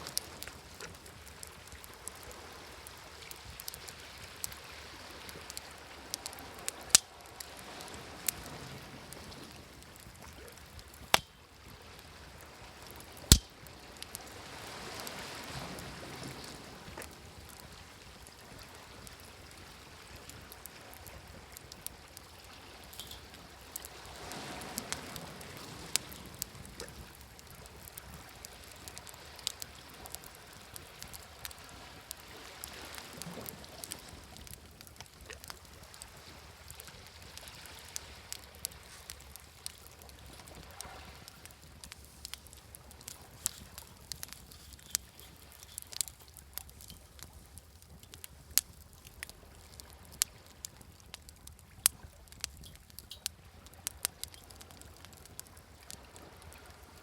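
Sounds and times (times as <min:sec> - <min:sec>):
waves washing on shore: 0:00.0 - 0:51.0
wood fire crackling and popping: 0:00.0 - 0:57.0.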